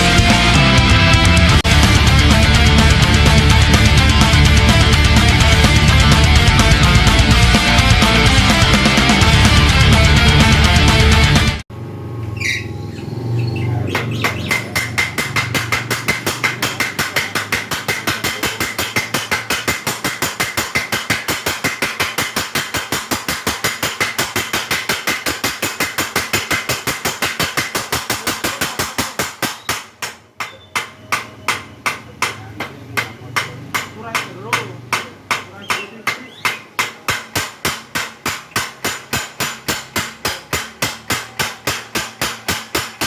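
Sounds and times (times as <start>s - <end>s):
power hammer striking: 1.5s - 10.9s, 13.9s - 43.0s.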